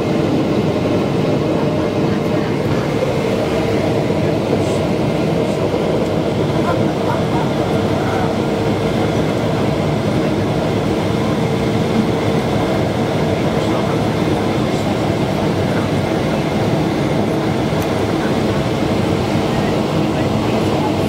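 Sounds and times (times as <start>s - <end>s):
jet engine and rushing air rumble: 0.0s - 21.0s.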